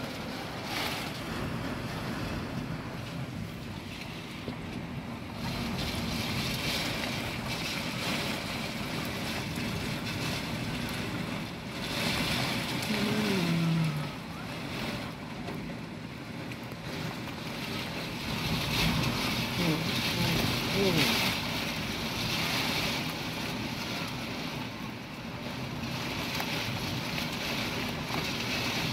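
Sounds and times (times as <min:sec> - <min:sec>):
wind and heavy rain on window: 0:00.0 - 0:28.9.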